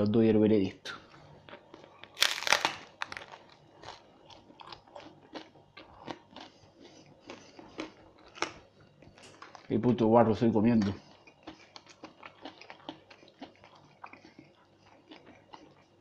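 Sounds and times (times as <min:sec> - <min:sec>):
close-up chewing with crackles: 0:01.2 - 0:16.0.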